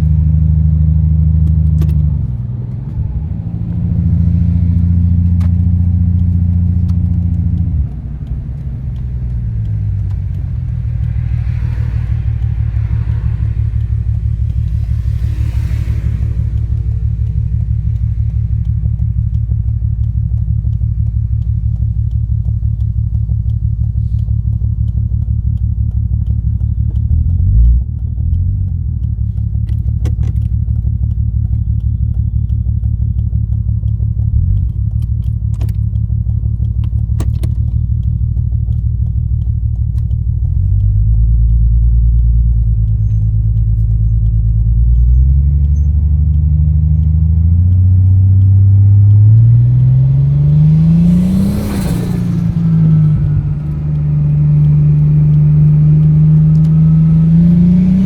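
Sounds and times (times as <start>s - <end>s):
car engine rumbling while driving: 0.0s - 58.0s.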